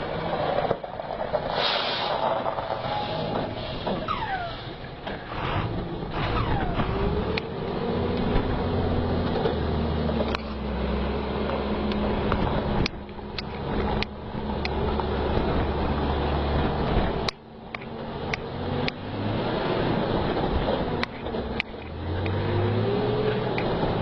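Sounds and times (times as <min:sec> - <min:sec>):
truck engine humming: 0:00.0 - 0:24.0.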